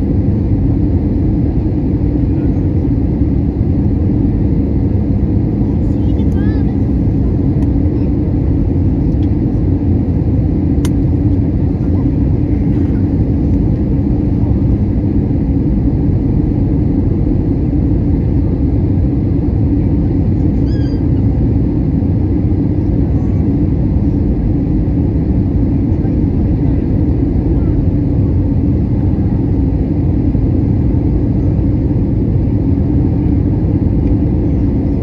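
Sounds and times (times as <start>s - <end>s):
airflow over fuselage: 0.0s - 35.0s
jet engines rumbling: 0.0s - 35.0s.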